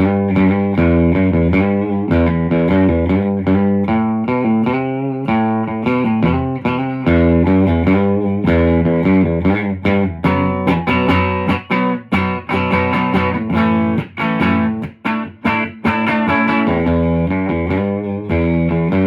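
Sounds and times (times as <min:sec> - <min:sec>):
overdriven electric guitar strumming: 0:00.0 - 0:19.0.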